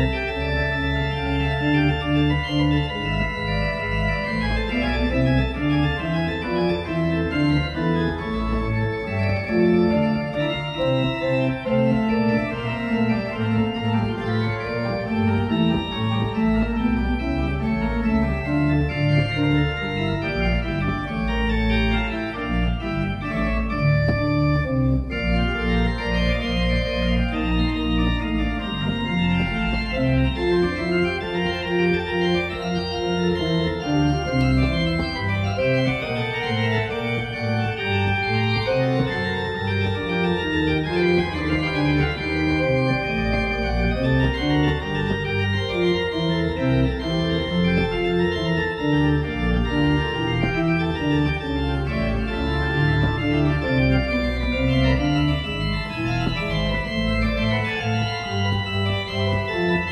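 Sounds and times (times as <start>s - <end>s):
pipe organ playing: 0.0s - 59.9s.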